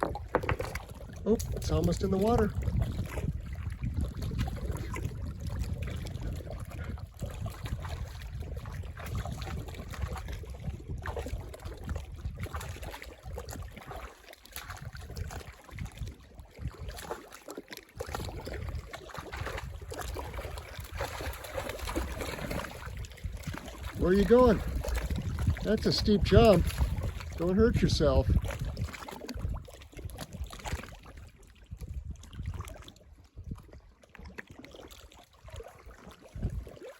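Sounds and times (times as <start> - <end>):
wind rumble on microphone: 0.0 - 17.2, 18.0 - 36.9
water splashing at the shore: 0.0 - 36.9.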